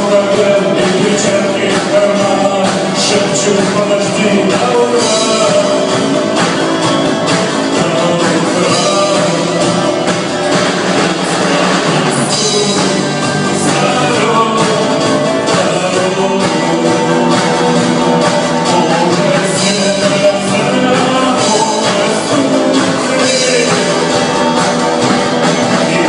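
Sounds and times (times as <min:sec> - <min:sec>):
person singing: 0:00.0 - 0:26.0
rock song with guitars: 0:00.0 - 0:26.0.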